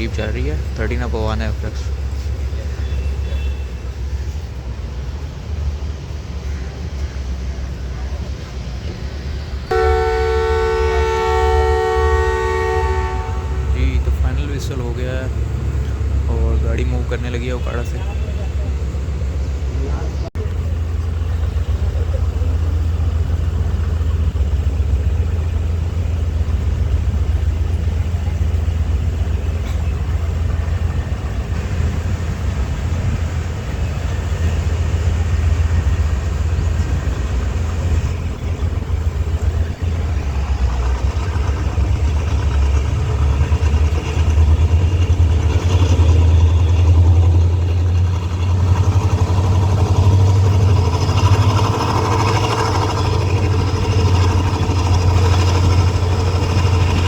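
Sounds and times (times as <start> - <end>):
diesel locomotive engine droning: 0.0 - 57.0.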